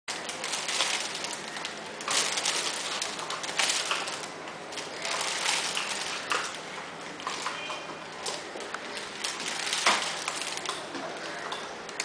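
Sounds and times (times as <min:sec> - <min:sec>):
plastic bag rustling: 0:00.1 - 0:12.0.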